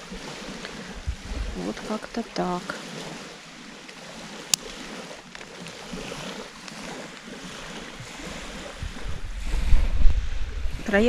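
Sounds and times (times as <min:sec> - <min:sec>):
small waves lapping at shore: 0:00.0 - 0:11.0
wind buffeting the microphone: 0:00.0 - 0:11.0.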